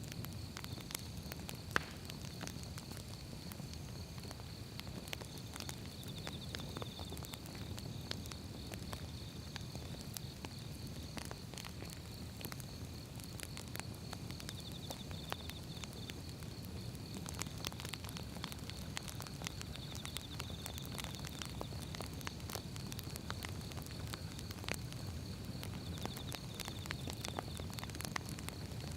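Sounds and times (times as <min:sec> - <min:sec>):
firewood crackling: 0:00.0 - 0:28.9
flames rumbling: 0:00.0 - 0:28.9.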